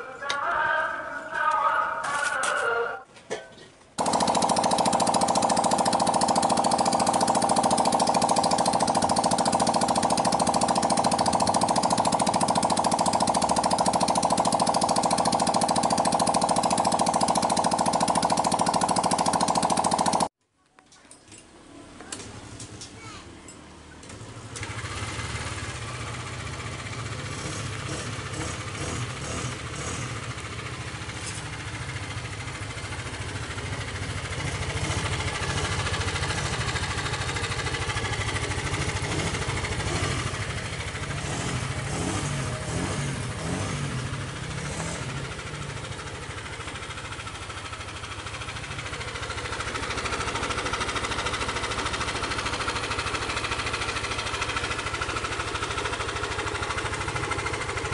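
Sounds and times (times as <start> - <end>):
scooter engine running: 4.0 - 20.3, 21.9 - 57.9.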